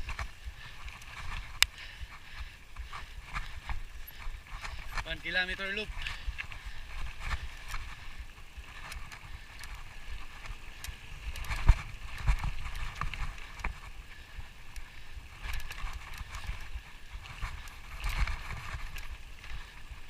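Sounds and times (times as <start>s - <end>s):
footsteps on a trail: 0.0s - 20.0s
gear rustling: 0.0s - 20.0s.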